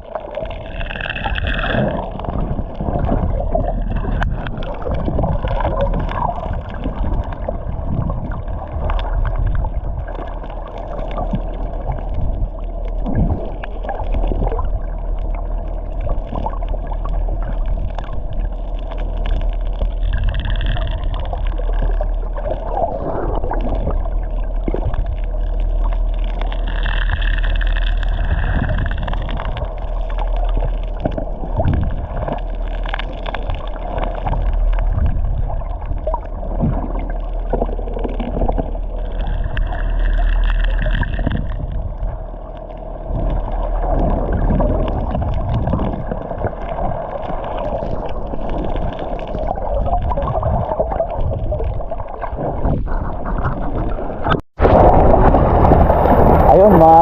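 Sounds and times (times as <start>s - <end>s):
low rumble: 0.0s - 57.0s
water gurgling and sloshing: 0.0s - 57.0s.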